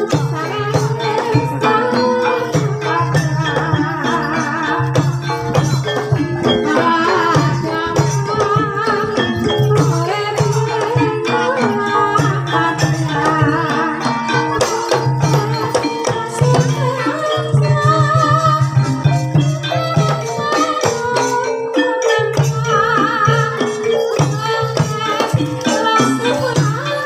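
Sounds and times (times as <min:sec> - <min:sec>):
gamelan music: 0:00.0 - 0:27.0.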